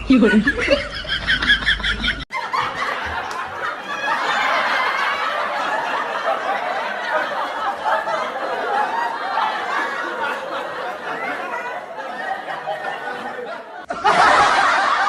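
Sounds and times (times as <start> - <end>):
group of people laughing: 0.0 - 15.0.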